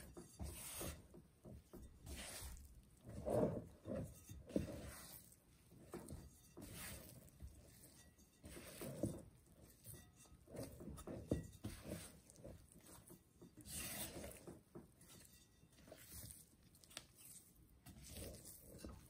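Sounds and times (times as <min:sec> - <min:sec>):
hands kneading sticky dough: 0:00.0 - 0:19.0.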